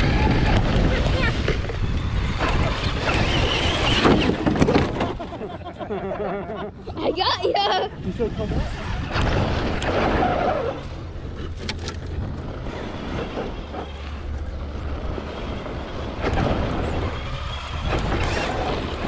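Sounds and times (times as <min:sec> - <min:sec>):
rc truck motor rumbling: 0:00.0 - 0:19.0.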